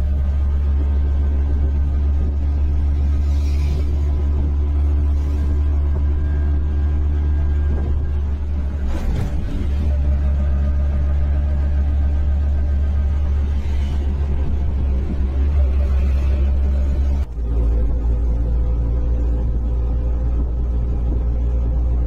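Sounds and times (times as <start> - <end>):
rattling noise: 0.0 - 22.0
vehicle engine droning: 0.0 - 22.0.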